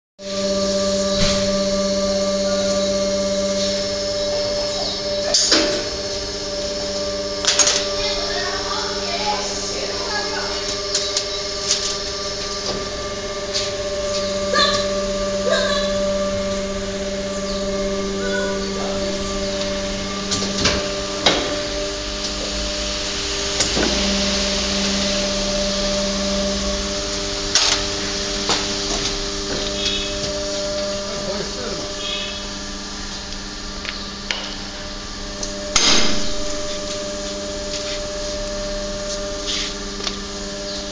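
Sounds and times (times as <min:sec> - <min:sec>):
injection molding machine whining hum: 0:00.2 - 0:40.9.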